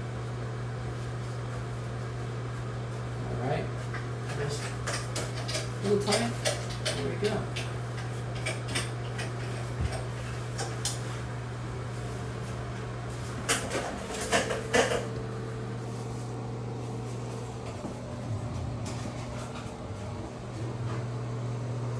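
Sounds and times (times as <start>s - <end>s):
low machine hum: 0.0s - 21.9s.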